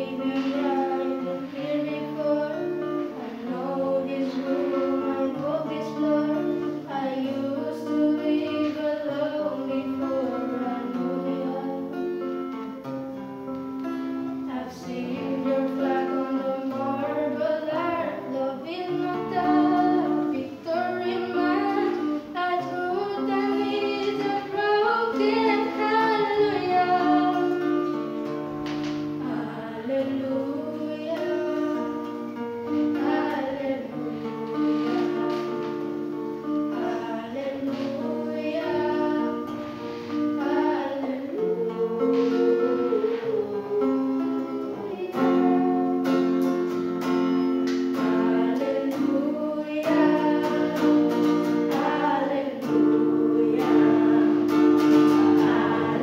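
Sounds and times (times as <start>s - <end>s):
electric guitar strumming chords: 0.0s - 56.0s
girl singing into a microphone: 0.0s - 56.0s.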